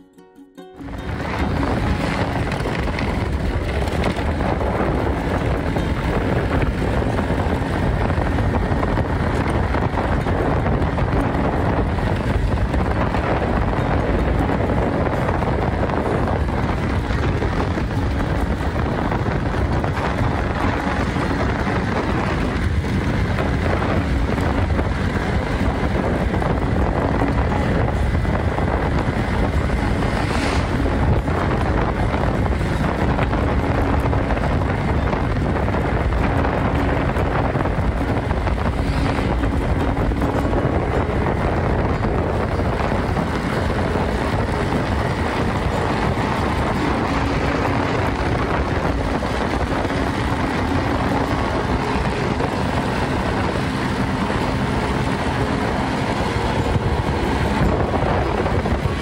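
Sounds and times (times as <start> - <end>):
scooter engine running: 0.8 - 59.0
truck passing: 0.8 - 59.0
wind buffeting microphone: 0.8 - 59.0.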